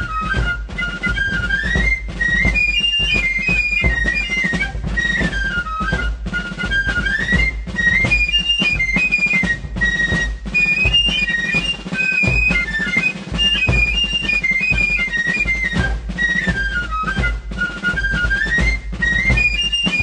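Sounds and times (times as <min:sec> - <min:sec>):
drum beat: 0:00.0 - 0:20.0
high melody: 0:00.0 - 0:20.0.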